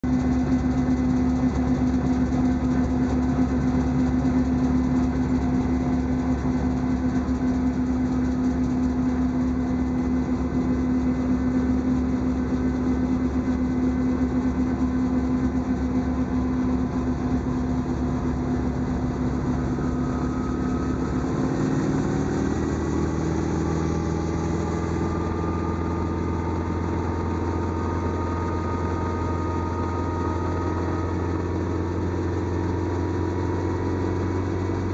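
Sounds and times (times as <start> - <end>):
helicopter turbine and rotor: 0.1 - 34.9.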